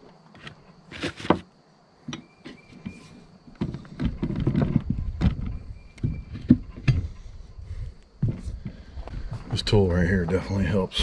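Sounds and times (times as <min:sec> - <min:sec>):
rubber tire scraping and creaking: 0:00.0 - 0:01.5, 0:02.2 - 0:11.0.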